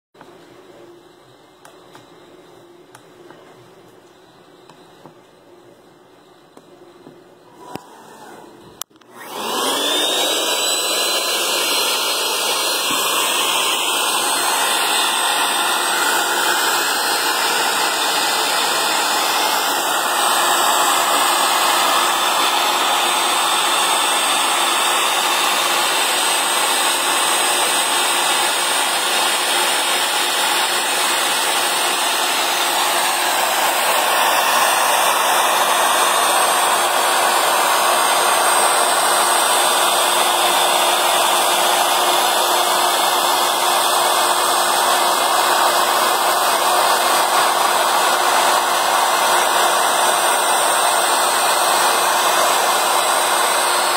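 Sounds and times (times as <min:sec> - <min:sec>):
industrial machine whirring: 0:07.0 - 0:53.9.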